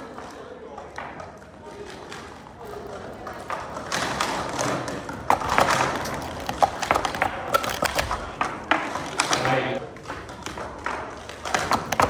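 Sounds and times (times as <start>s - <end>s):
plastic cups clacking: 0.0s - 12.0s.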